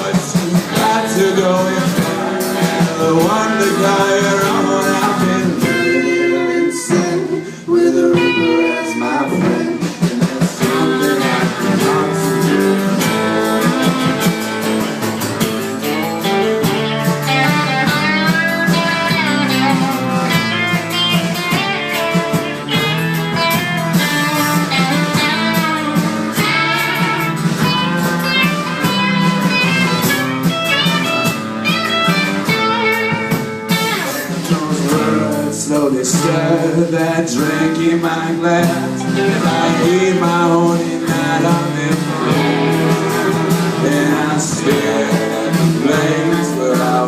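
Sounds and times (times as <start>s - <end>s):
blues guitar lead: 0.0s - 47.0s.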